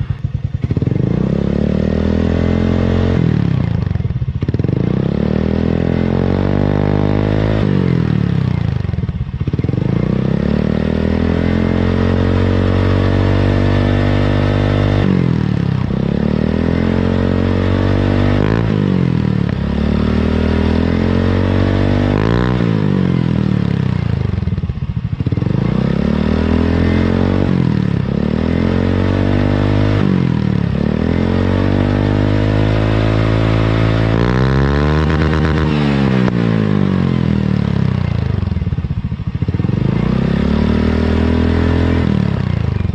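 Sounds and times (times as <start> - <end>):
scooter engine revving: 0.0 - 42.9.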